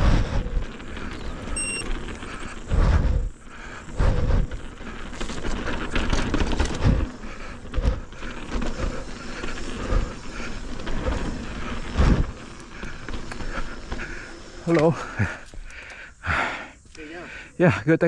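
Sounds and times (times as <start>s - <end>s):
bike tyres on dirt trail: 0.0s - 18.0s.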